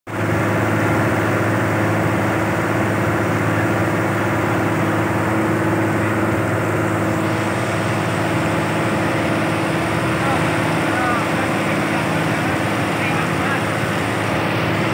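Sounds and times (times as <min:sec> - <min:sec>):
boat engine running: 0:00.1 - 0:14.9.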